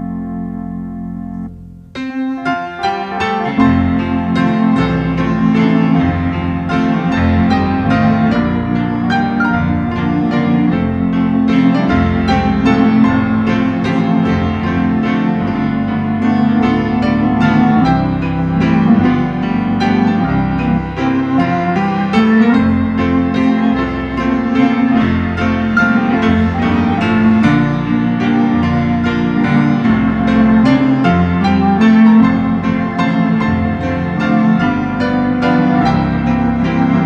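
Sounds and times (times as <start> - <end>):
organ held low tones: 0.0 - 37.0
piano notes: 0.0 - 37.0.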